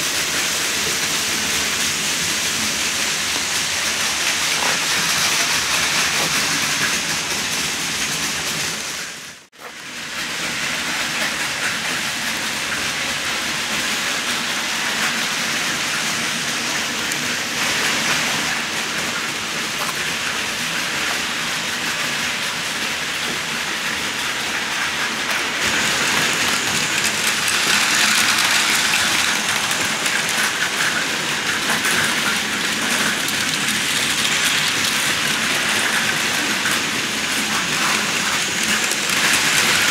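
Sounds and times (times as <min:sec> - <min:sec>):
model train whirring and rattling: 0:00.0 - 0:39.9.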